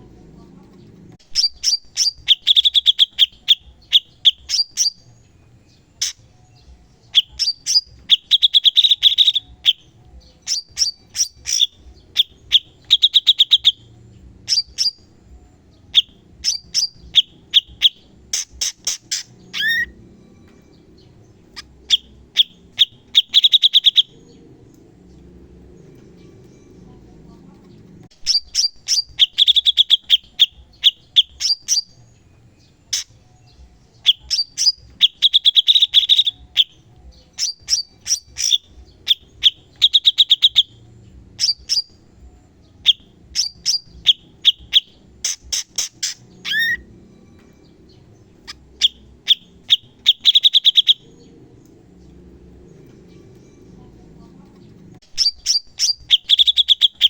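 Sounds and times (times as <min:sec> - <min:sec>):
bird singing sharp high chirps: 0:01.2 - 0:26.8, 0:28.1 - 0:53.6, 0:55.0 - 0:57.0.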